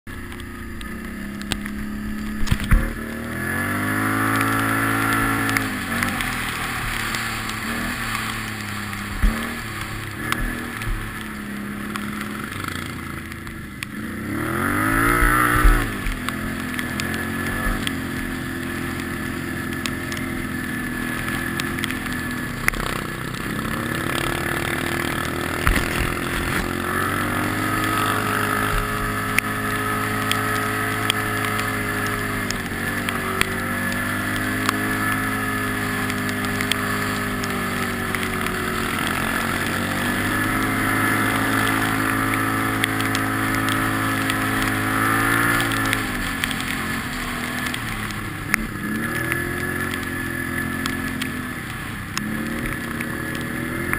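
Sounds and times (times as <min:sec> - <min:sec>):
quad bike engine revving: 0:00.1 - 0:53.9.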